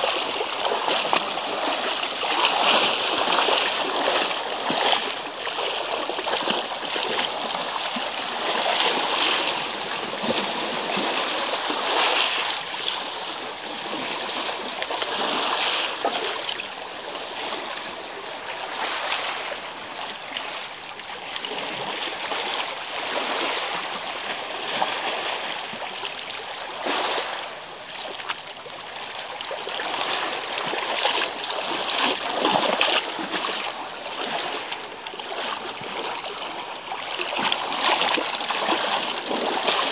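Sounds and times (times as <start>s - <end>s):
waves splashing on pebbles: 0.0s - 17.7s, 21.4s - 39.9s.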